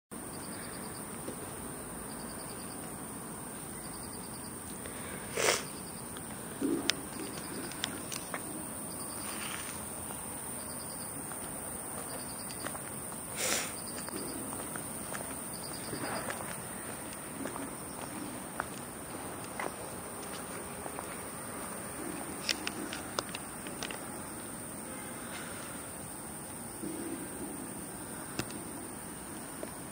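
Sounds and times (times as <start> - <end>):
insects chirping: 0.1 - 29.9
steady high hiss: 0.2 - 29.9.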